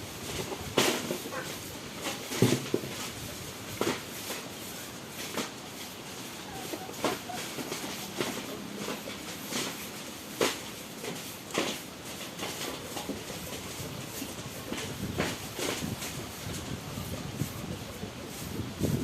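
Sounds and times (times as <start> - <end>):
cleaning scraping and knocking: 0.2 - 19.0.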